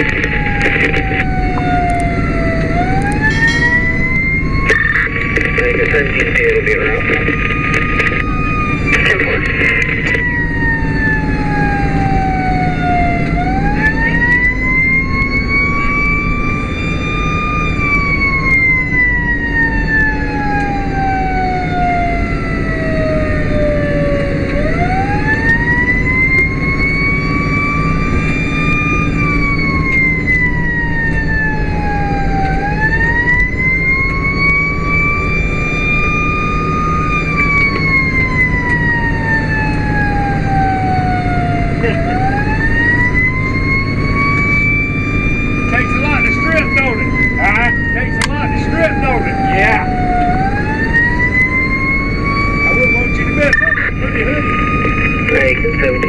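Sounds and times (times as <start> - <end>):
engine and road noise: 0.0 - 56.0
siren wailing: 0.0 - 56.0.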